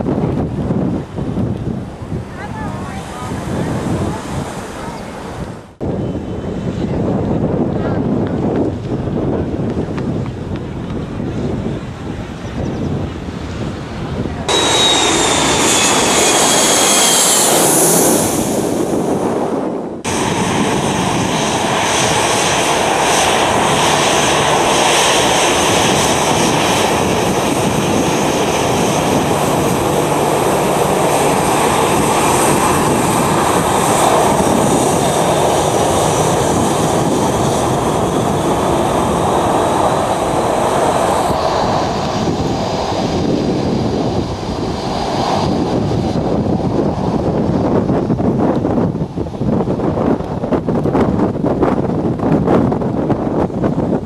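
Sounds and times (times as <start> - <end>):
high jet engine whine: 0.0 - 54.0
jet engine noise: 0.0 - 54.0.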